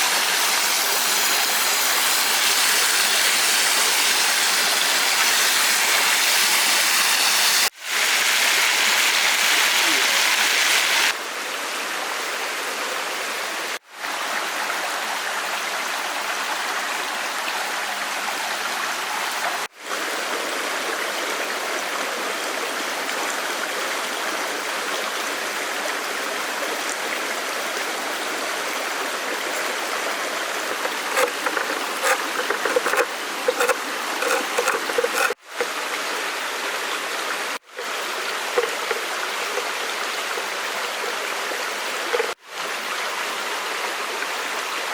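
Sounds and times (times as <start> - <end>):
stream water running: 0.0 - 44.9.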